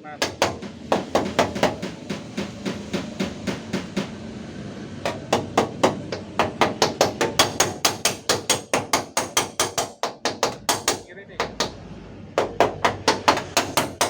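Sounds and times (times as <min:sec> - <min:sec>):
hammer tapping sheet metal: 0:00.0 - 0:11.8, 0:12.4 - 0:14.0.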